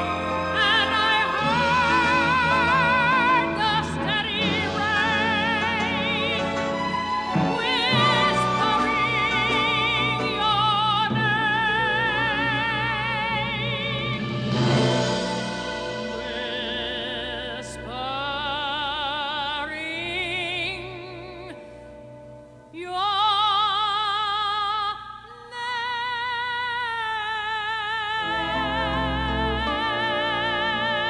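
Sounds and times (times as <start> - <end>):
woman singing opera: 0.0 - 21.7, 22.8 - 31.0.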